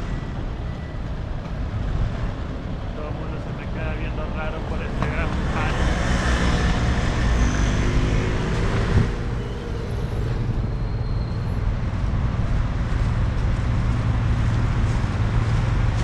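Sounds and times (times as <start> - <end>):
passing cars rumble: 0.0 - 16.0
vehicle engine: 0.0 - 16.0.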